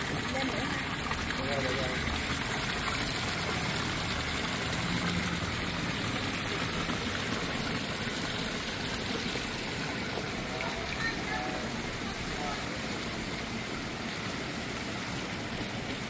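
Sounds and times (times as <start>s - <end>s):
fountain water splashing: 0.0s - 16.0s.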